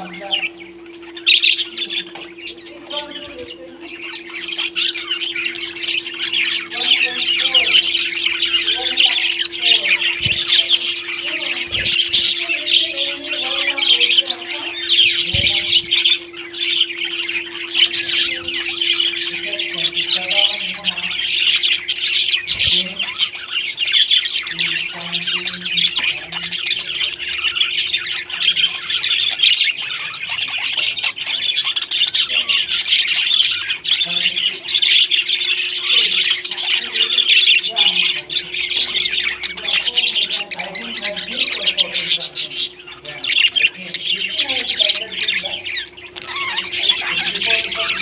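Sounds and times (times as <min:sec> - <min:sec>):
parrots chirping and squawking: 0:00.0 - 0:48.0.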